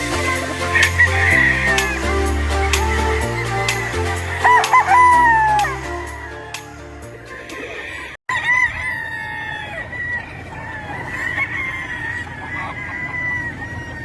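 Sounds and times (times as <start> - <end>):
roosters crowing: 0.0 - 14.0.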